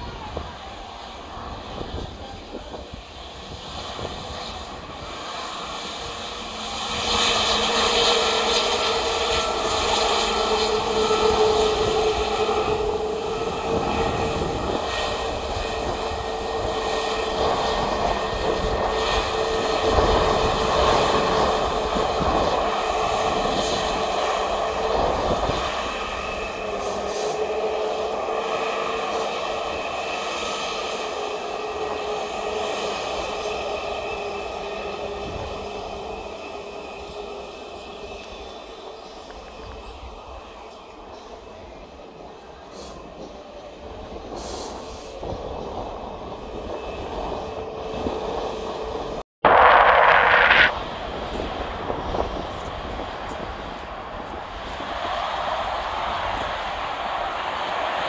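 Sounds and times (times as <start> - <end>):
jet engines whining at taxi power: 0.0 - 58.0.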